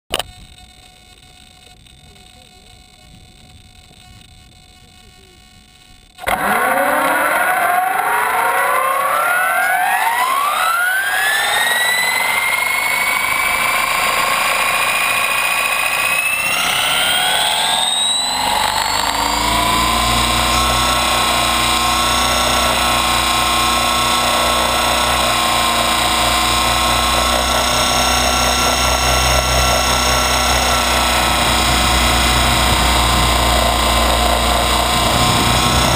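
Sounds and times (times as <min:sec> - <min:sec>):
electric motor and gear whine: 0:00.1 - 0:35.9
low rotor thrum: 0:06.2 - 0:35.9.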